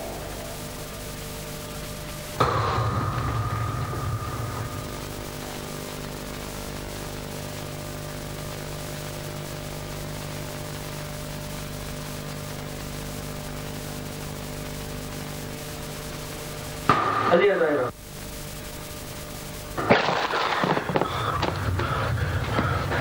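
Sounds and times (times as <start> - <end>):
electrical hum: 0.0 - 23.0
static hiss: 0.0 - 23.0.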